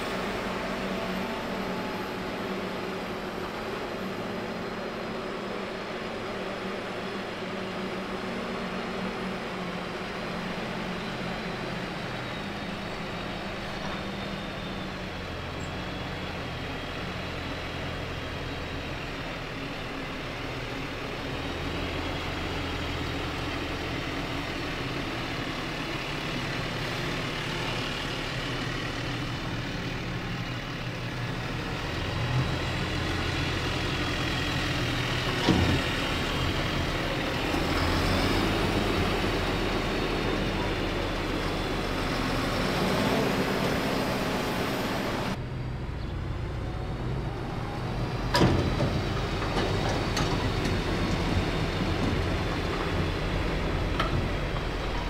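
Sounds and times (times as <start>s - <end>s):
tractor engine under load: 0.0s - 55.0s.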